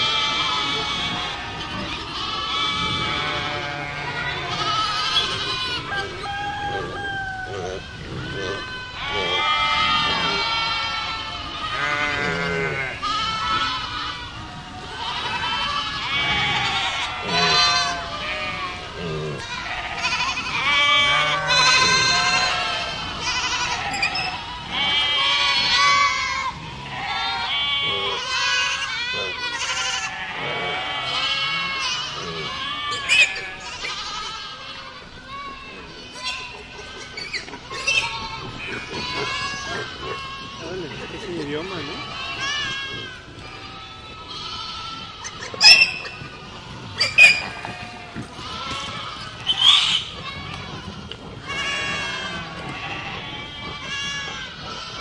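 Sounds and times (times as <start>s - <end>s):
goats bleating: 0.0s - 55.0s.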